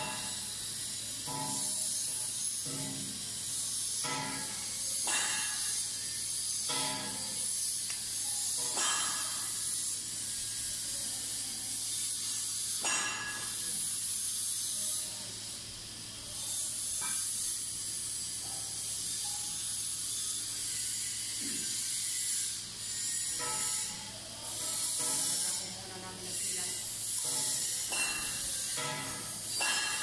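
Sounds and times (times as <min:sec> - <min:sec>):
high hiss: 0:00.0 - 0:19.2, 0:23.0 - 0:30.0.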